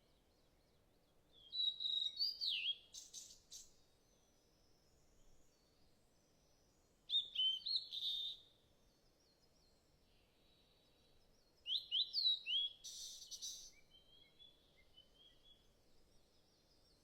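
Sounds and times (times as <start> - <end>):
faint thin birdsong: 0.0 - 17.0.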